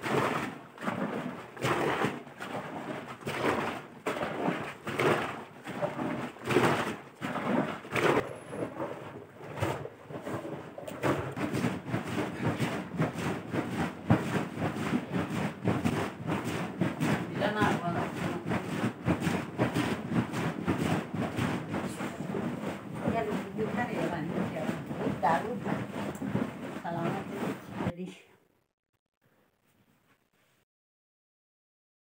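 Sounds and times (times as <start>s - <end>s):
liquid sloshing in a churn: 0.0s - 28.0s.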